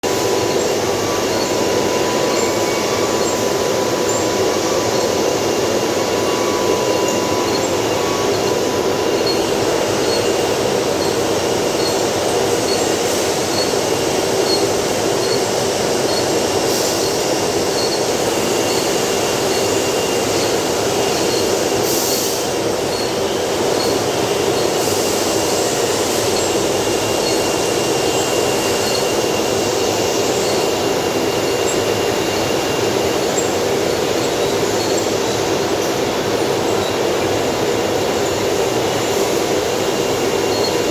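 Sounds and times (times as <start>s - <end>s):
mechanical running noise: 0.0s - 40.9s
thin high whine: 0.0s - 40.9s.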